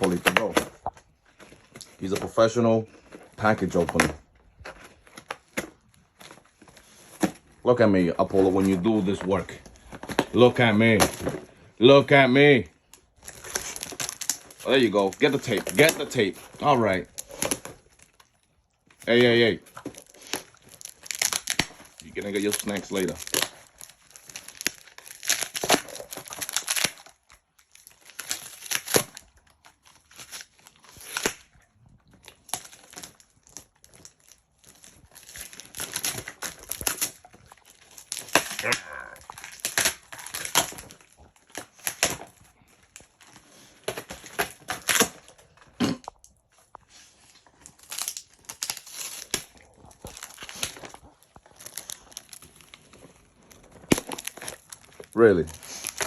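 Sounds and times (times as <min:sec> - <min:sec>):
dog tearing tape and cardboard: 0:00.0 - 0:56.0.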